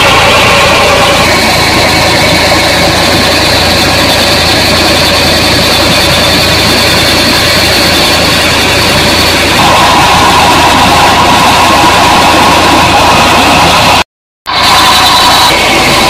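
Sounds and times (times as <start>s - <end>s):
tractor diesel engine running: 0.0s - 16.0s
water gushing from pipe: 0.0s - 16.0s.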